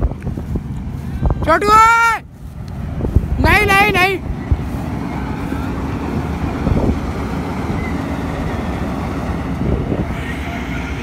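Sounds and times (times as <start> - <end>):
tractor and combine diesel engines: 0.0 - 11.0.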